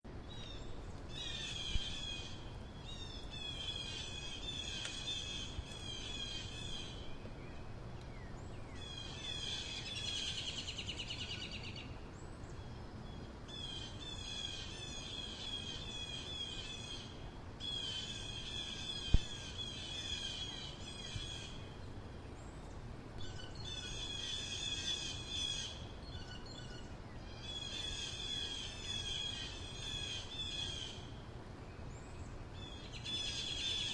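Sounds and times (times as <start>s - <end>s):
low background noise: 0.1s - 33.9s.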